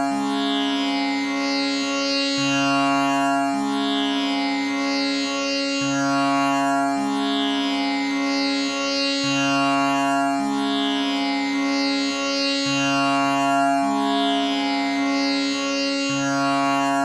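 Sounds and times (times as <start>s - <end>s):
tanpura drone: 0.0s - 17.0s.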